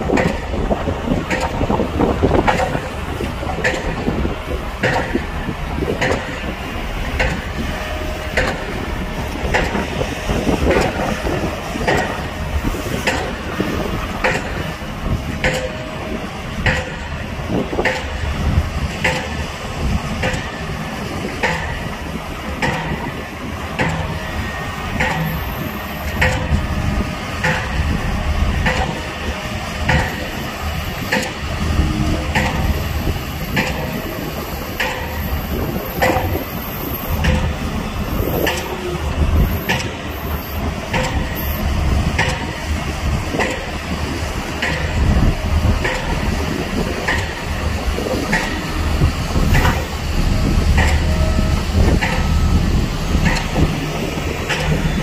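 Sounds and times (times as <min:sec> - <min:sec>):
diesel machinery rumbling: 0:00.0 - 0:55.0.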